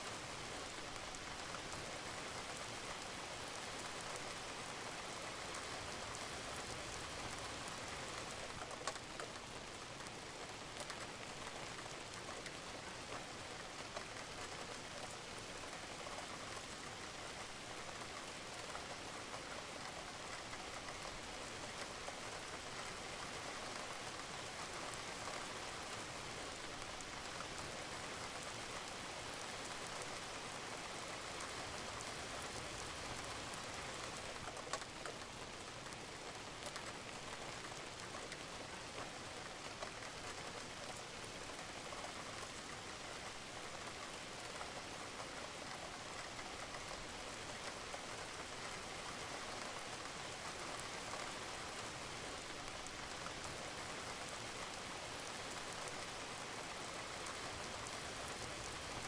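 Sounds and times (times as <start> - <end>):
rain pattering on a roof: 0.0 - 59.0.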